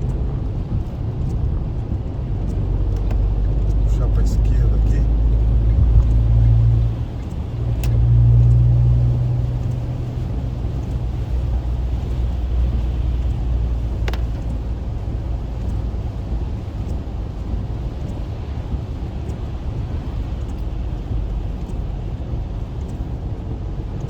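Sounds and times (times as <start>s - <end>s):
car road and engine rumble: 0.0s - 24.0s
faint clicks: 0.0s - 24.0s.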